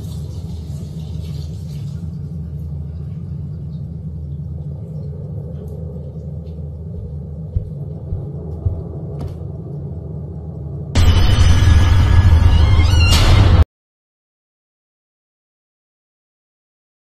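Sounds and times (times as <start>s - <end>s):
low rumbling drone: 0.0s - 13.6s.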